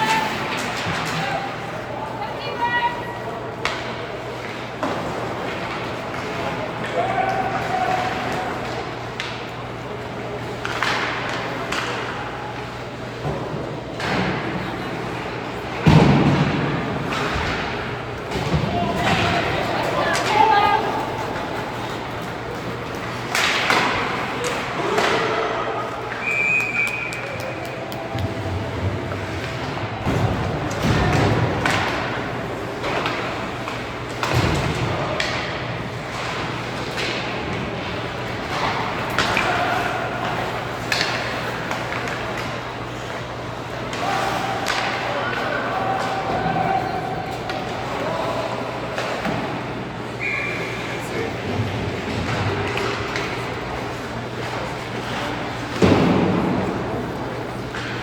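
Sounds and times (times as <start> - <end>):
hockey sticks clacking: 0.0 - 50.6, 51.3 - 58.0.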